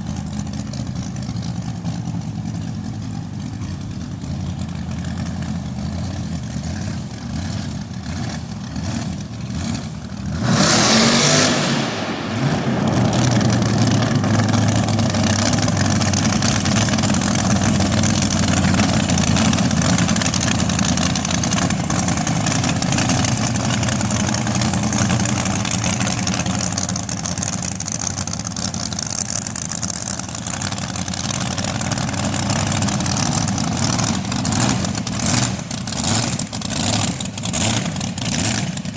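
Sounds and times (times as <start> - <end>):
dragster engine: 0.0 - 38.9.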